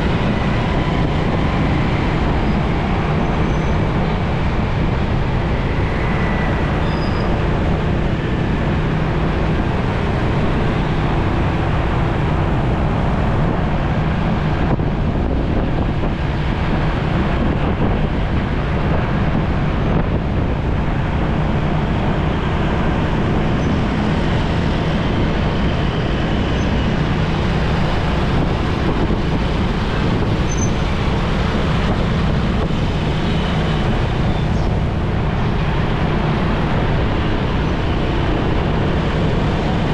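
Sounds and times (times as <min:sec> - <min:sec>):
road traffic: 0:00.0 - 0:39.9.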